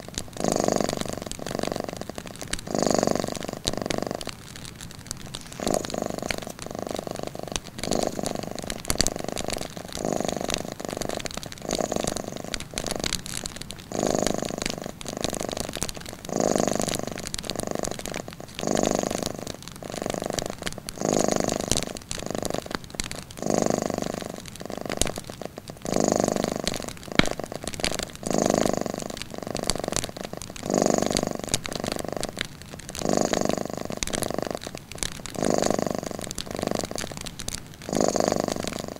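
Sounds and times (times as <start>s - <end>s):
cat purring: 0.0s - 38.9s
wood fire crackling: 0.0s - 38.9s.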